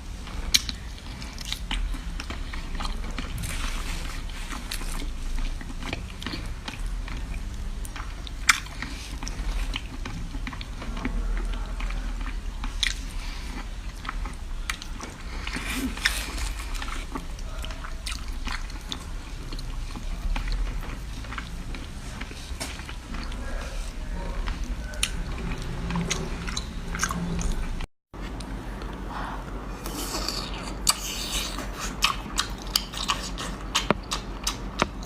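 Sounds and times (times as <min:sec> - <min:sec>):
low steady hum: 0:00.0 - 0:35.0
person chewing seafood: 0:00.2 - 0:35.0.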